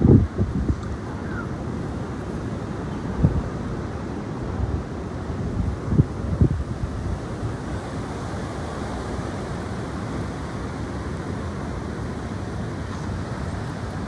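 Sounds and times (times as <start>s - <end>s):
strong wind blowing: 0.0s - 14.0s
wind buffeting microphone: 0.0s - 14.0s.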